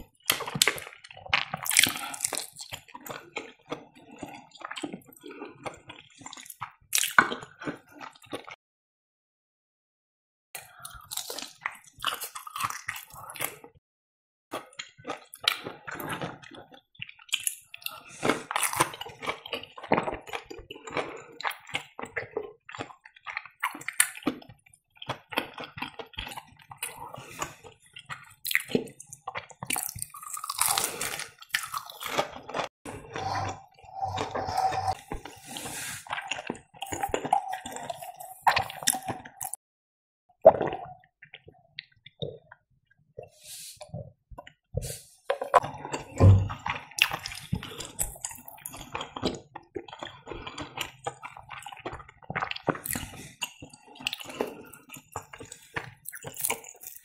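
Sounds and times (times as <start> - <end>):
chewing with wet clicks and smacks: 0.0 - 8.6, 10.6 - 13.8, 14.5 - 32.7, 36.1 - 39.6, 40.4 - 44.6, 46.6 - 57.0.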